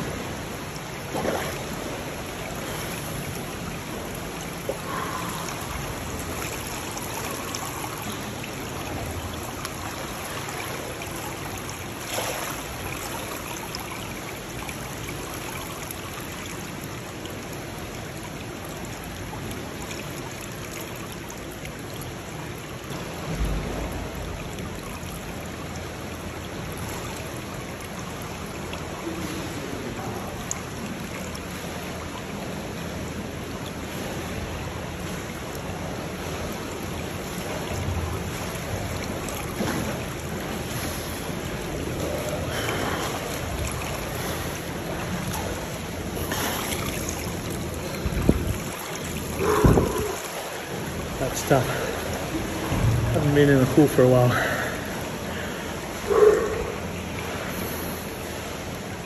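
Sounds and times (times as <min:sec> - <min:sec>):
pool water lapping and sloshing: 0:00.0 - 0:59.0.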